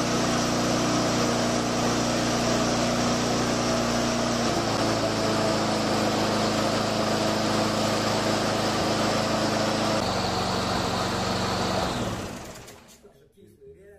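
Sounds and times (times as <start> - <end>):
lawn mower engine running: 0.0 - 12.9.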